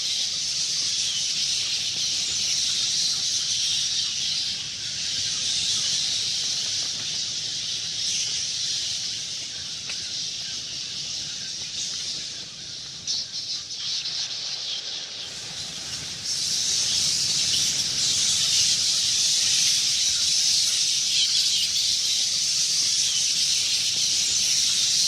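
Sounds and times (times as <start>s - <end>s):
bats chittering: 0.0s - 25.0s.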